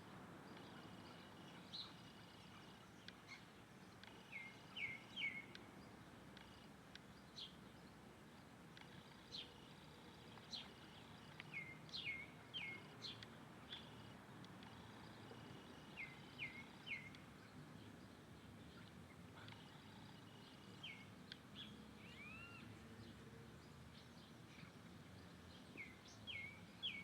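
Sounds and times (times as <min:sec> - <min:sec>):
faint steady background noise: 0:00.0 - 0:27.0
small birds chirping: 0:00.4 - 0:27.0.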